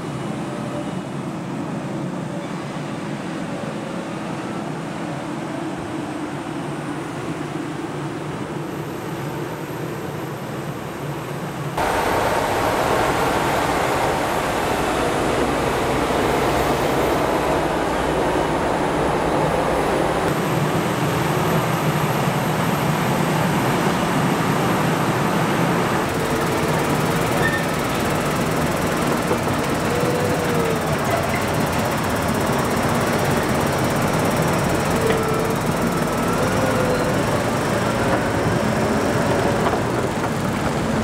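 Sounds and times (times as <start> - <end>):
tractor diesel engines running: 0.0 - 41.0.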